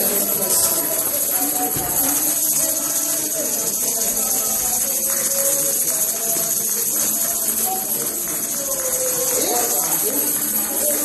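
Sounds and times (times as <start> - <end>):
congregation voices: 0.0 - 11.0
tambourine jingling: 0.0 - 11.0.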